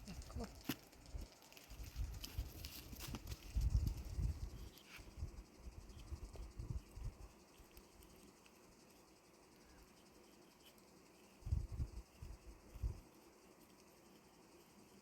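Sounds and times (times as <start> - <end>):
faint insect chirping: 0.0 - 15.0.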